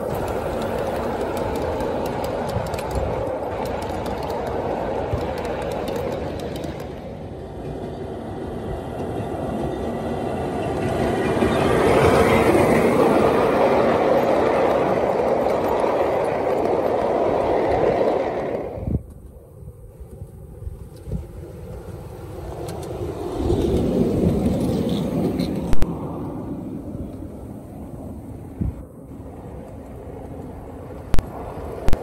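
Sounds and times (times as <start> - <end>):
passing train rumble: 0.0 - 32.0
steel wheels rumbling on rail: 0.0 - 32.0.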